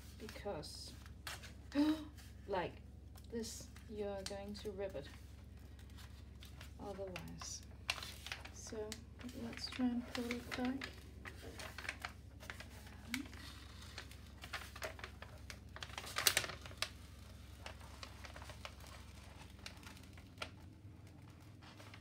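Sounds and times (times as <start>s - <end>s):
paper peeling and crackling: 3.1s - 22.0s.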